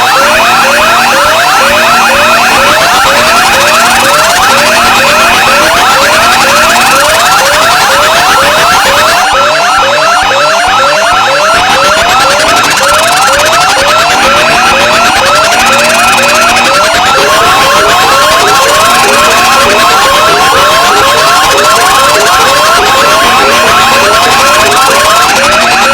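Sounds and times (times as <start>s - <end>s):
fast warbling alarm tone: 0.0s - 25.9s
long electronic beeps: 0.0s - 25.9s
rising whoop siren: 0.0s - 25.9s
steady alarm tone: 0.0s - 25.9s.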